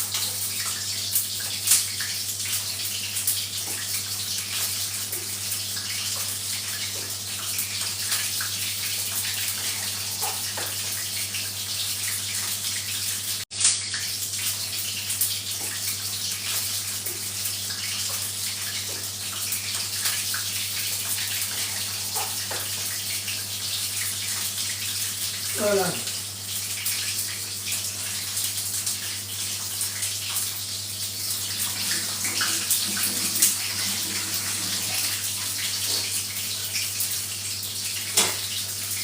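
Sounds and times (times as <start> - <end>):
water running from a tap: 0.0 - 39.0.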